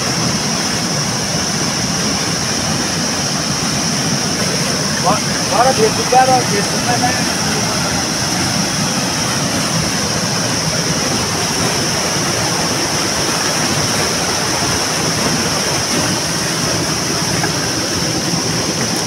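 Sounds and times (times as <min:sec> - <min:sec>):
stream flowing water: 0:00.0 - 0:19.0.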